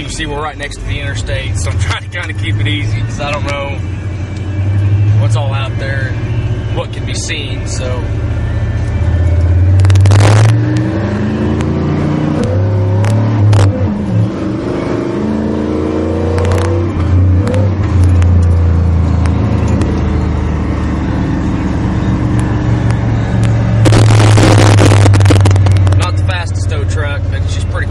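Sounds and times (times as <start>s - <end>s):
pickup truck engine accelerating: 0.0s - 27.9s.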